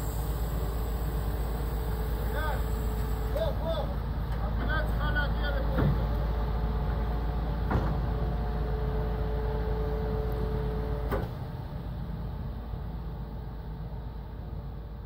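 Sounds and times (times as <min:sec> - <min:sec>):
hydraulic whine: 0:00.0 - 0:12.1
diesel engine running: 0:00.0 - 0:15.0.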